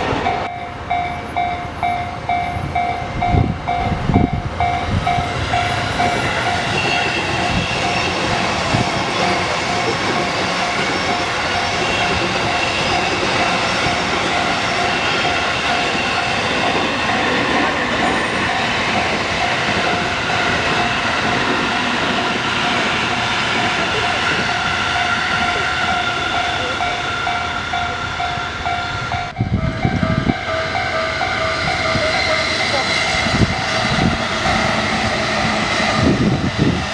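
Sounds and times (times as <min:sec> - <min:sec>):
crossing warning bell dinging: 0:00.0 - 0:36.9
train rolling past: 0:00.0 - 0:36.9.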